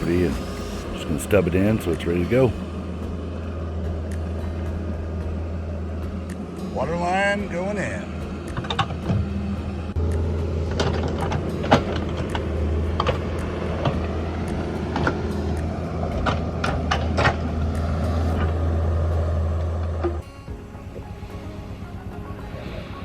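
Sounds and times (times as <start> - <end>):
construction machine engine drone: 0.0 - 23.0.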